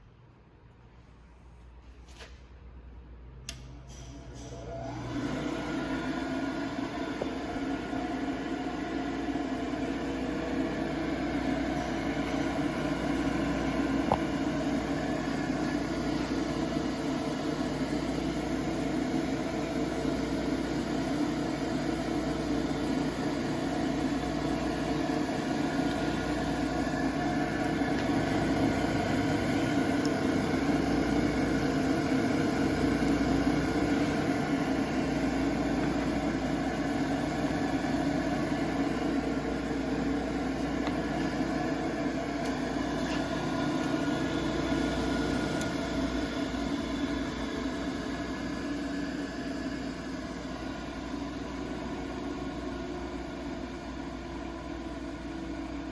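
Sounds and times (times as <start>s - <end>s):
grinder electric motor humming: 5.0s - 53.2s.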